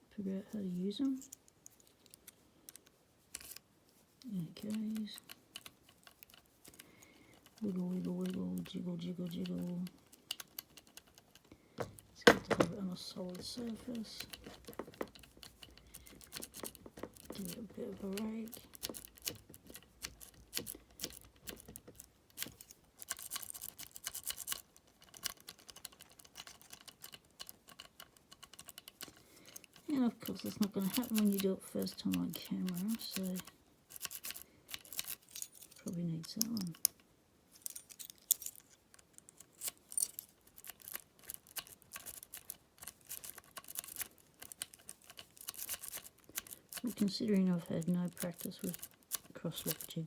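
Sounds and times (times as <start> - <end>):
lock pick clicking and scraping: 1.2 - 3.7, 4.5 - 50.0.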